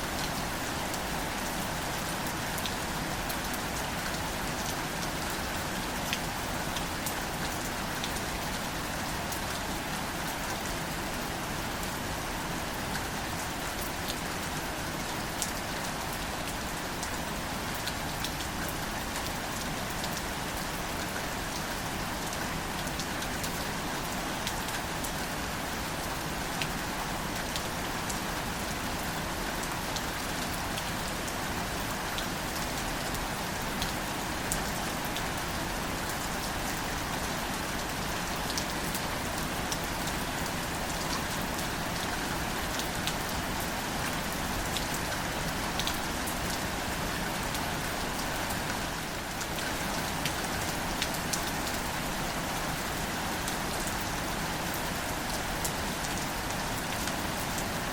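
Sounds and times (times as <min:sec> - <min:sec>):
gentle rain pattering: 0:00.0 - 0:57.9.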